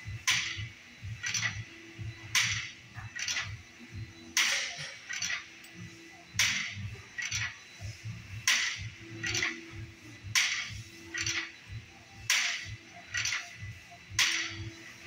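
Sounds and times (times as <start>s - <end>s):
gym cable machine weight stack: 0.1s - 15.0s.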